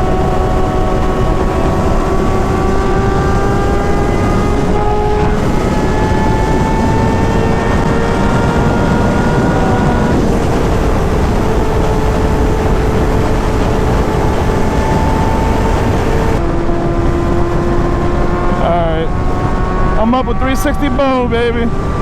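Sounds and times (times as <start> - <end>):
motorcycle engine cruising: 0.0 - 22.0
wind noise on microphone: 0.0 - 22.0.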